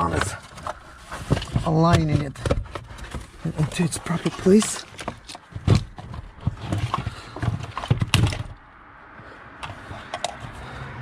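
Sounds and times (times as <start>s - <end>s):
plastic parts clicking and rattling: 0.0s - 8.6s, 9.6s - 10.6s.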